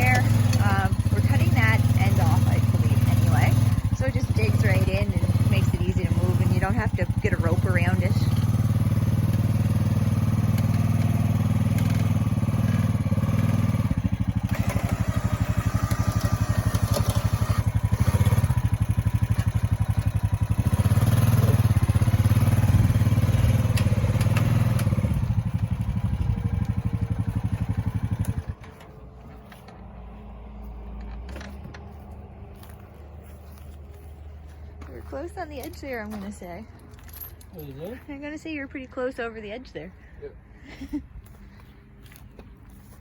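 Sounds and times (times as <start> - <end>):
atv engine running under load: 0.0 - 38.3.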